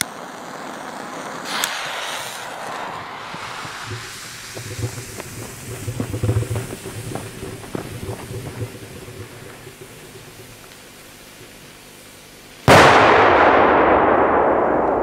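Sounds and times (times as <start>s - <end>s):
firework fuse spitting and hissing: 0.0s - 13.1s.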